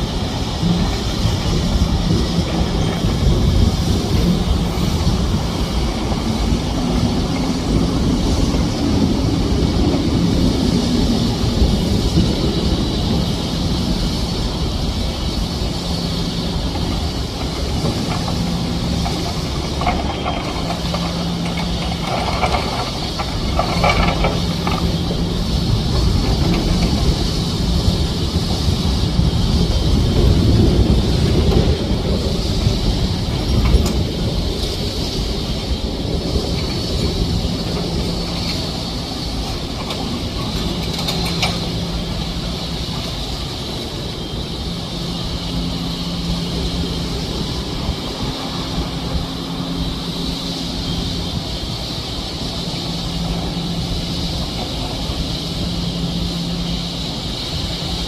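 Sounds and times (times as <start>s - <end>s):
excavator diesel engines droning: 0.0s - 58.0s.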